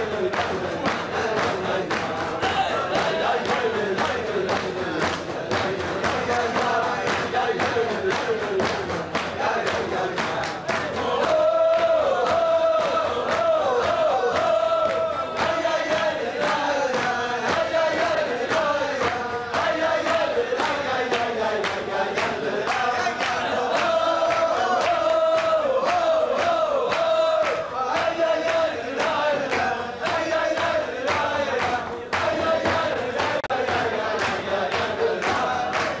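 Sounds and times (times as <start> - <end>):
crowd singing wordless melody: 0.0 - 36.0
sharp claps or stamps: 0.0 - 36.0.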